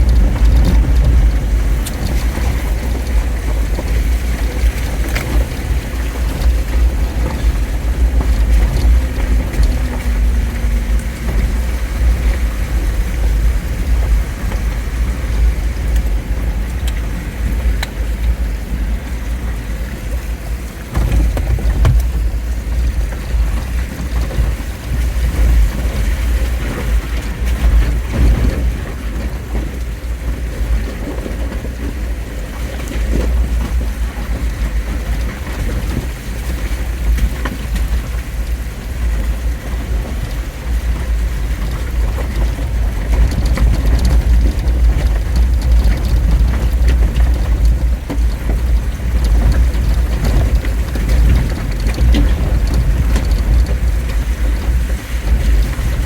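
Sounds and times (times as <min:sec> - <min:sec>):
vehicle engine and tyres rumbling: 0:00.0 - 0:56.0
water washing around wheels: 0:00.0 - 0:56.0.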